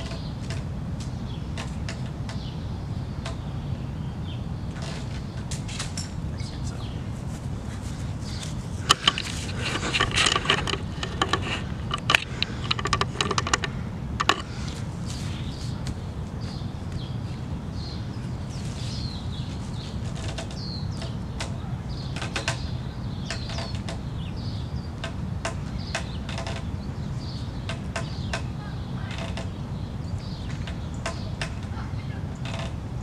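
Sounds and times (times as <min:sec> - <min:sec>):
birds chirping: 0:00.0 - 0:33.0
steady low rumble: 0:00.0 - 0:33.0.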